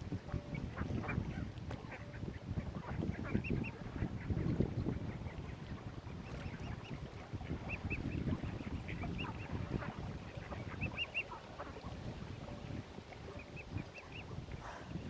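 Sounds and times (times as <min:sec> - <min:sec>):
waterbirds chirping: 0:00.0 - 0:15.0.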